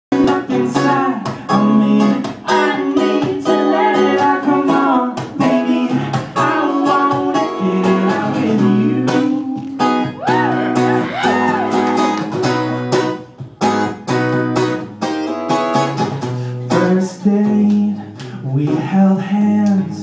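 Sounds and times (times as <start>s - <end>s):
acoustic guitar strumming chords: 0.1s - 20.0s.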